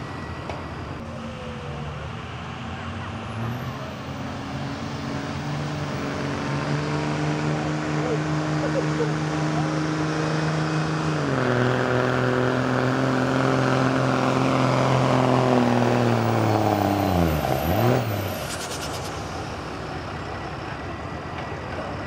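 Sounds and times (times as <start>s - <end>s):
diesel truck engine pulling under load: 0.0s - 22.0s.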